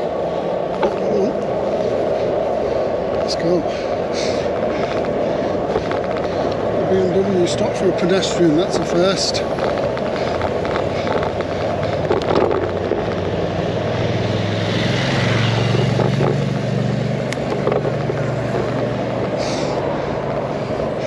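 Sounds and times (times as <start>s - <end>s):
road noise: 0.0s - 21.0s
wind noise: 0.0s - 21.0s
vehicle engine passing: 0.6s - 21.0s.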